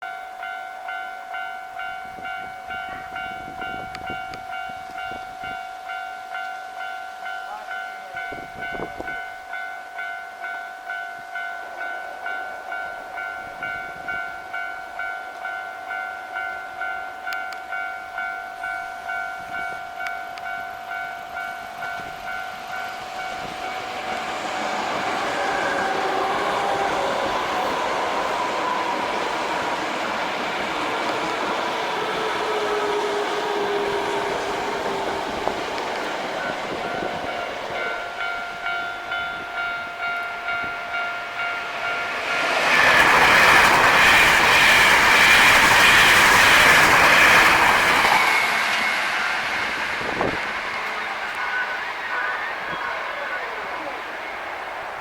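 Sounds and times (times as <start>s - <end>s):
level-crossing warning bell: 0.0s - 55.0s
passing train running noise: 0.0s - 55.0s.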